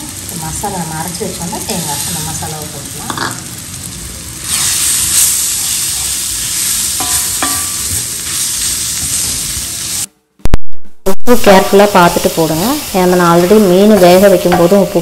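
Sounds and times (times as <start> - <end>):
food sizzling in oil: 0.0 - 10.1, 11.1 - 15.0.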